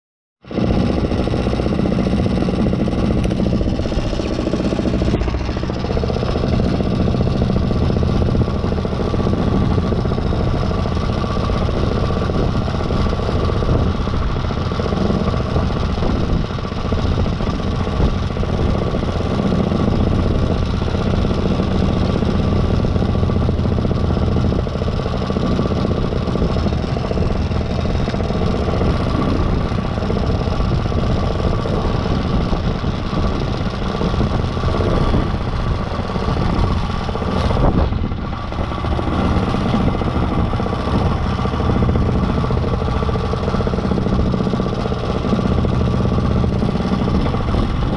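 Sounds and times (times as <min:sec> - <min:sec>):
paramotor engine idling: 0:00.5 - 0:47.9.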